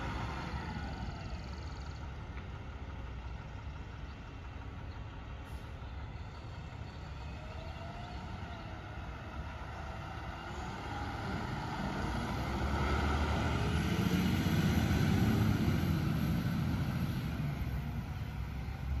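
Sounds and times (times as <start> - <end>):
garbage truck engine rumbling: 0.0 - 19.0.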